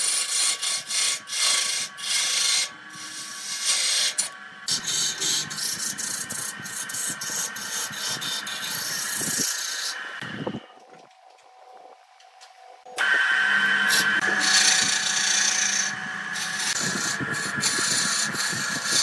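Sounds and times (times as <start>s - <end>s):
lathe tool cutting wood: 0.0s - 10.2s, 13.0s - 19.0s
electric motor whine: 0.6s - 10.8s, 12.8s - 19.0s.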